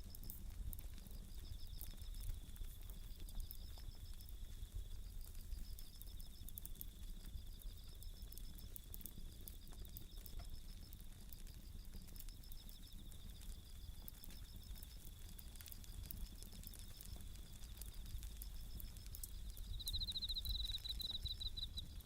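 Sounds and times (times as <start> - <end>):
campfire crackling: 0.0 - 22.0
crickets trilling: 0.0 - 22.0.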